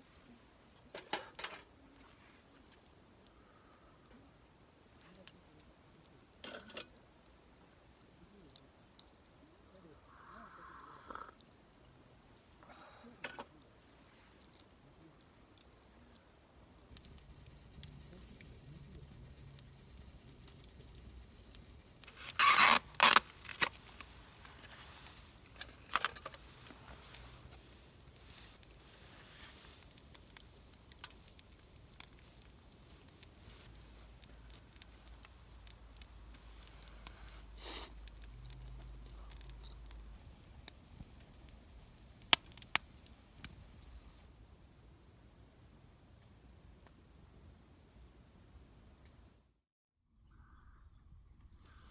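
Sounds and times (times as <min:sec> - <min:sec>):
faint steady background: 0:00.0 - 0:51.9.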